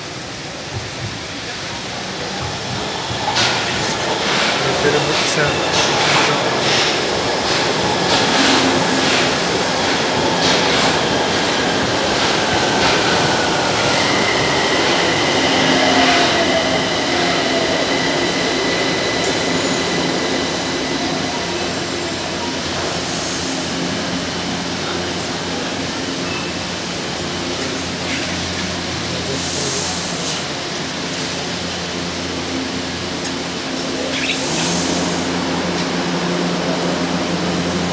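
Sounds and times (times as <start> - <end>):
train braking whine: 2.1 - 37.9.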